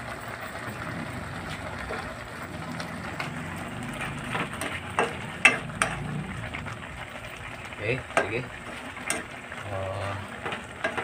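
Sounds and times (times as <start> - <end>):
stew simmering bubbling: 0.0 - 11.0.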